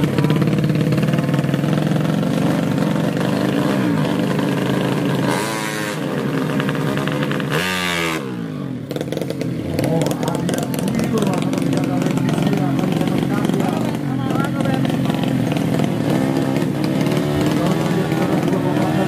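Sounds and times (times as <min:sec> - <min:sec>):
motorcycle engine revving hard: 0:00.0 - 0:19.0.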